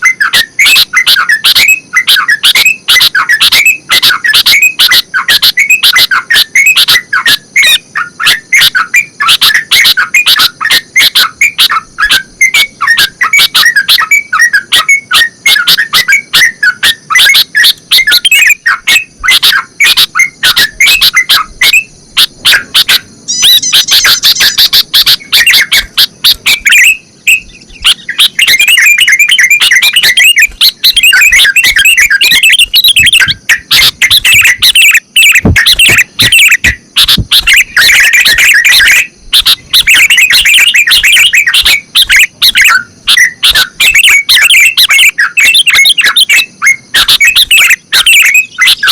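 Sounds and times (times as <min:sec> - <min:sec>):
bulbuls singing: 0:00.0 - 0:48.9.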